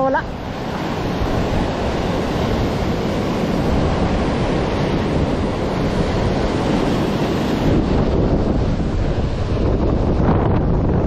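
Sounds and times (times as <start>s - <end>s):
surf breaking on rocky shore: 0.0s - 11.0s
wind buffeting microphone: 0.0s - 11.0s.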